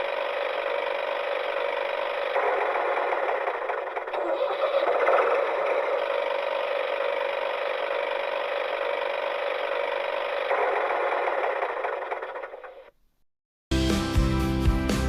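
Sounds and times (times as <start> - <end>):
small electric motor running: 0.0 - 12.9.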